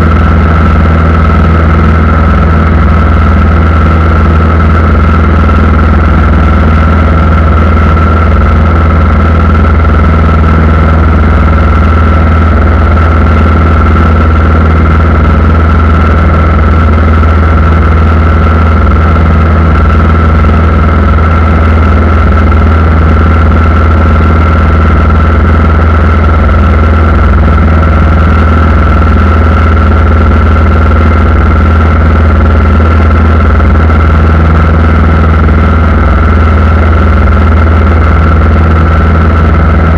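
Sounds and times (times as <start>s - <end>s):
aircraft engines humming: 0.0s - 39.9s
high-pitched whine: 0.0s - 39.9s.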